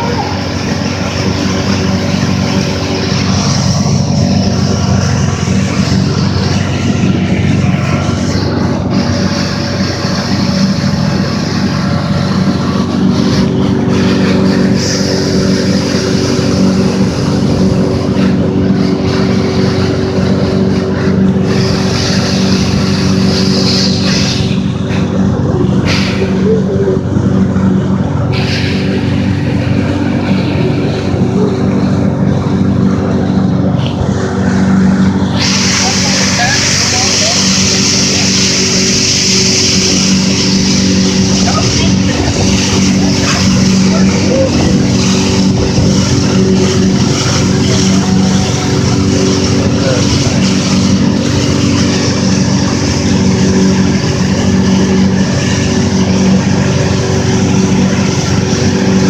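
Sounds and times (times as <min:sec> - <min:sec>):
boat motor running: 0:00.0 - 0:59.0
water and wind rushing: 0:00.0 - 0:59.0.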